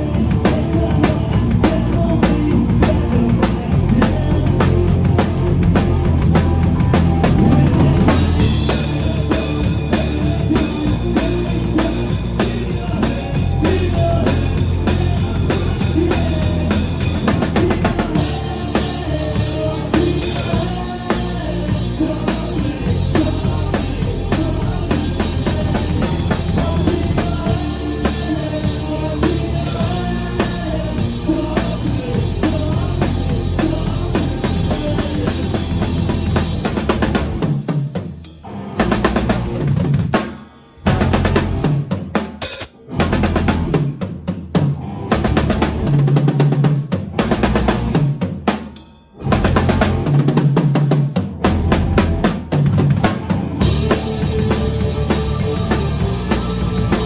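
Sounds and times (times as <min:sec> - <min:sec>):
bass: 0:00.0 - 0:48.6, 0:49.2 - 0:57.0
drum kit steady beat: 0:00.0 - 0:57.0.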